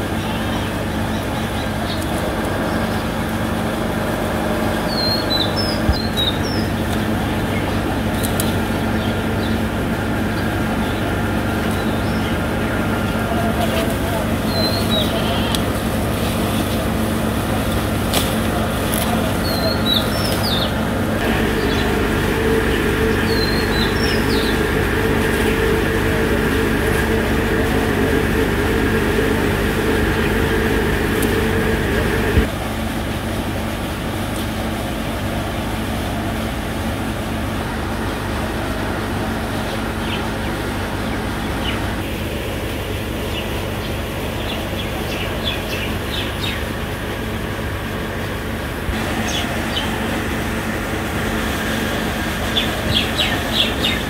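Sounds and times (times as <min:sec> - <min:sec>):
birds chirping: 0:00.0 - 0:32.5, 0:38.4 - 0:42.1, 0:42.9 - 0:54.0
machine hum: 0:00.0 - 0:54.0.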